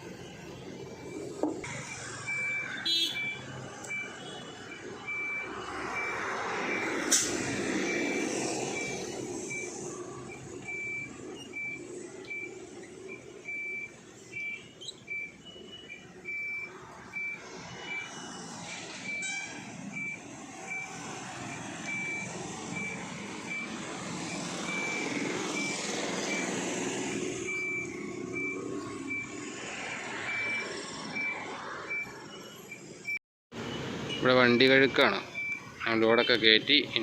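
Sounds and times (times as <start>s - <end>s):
engine and traffic noise: 0.0s - 37.0s
truck reversing alarm beeping: 0.0s - 37.0s.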